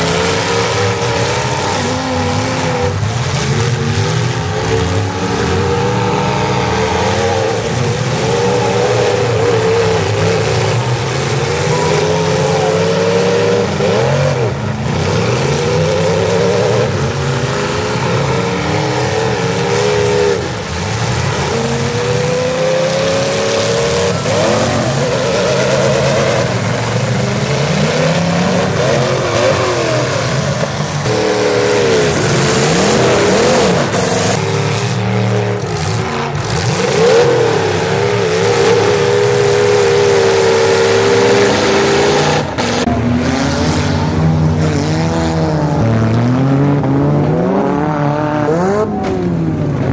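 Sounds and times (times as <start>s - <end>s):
car engines revving hard: 0.0s - 49.9s.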